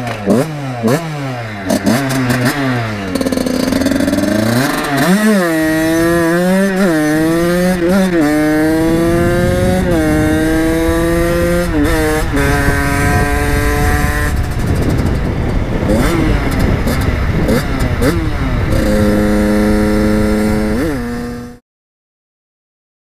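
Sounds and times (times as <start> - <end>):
two-stroke engine revving: 0.0 - 21.6.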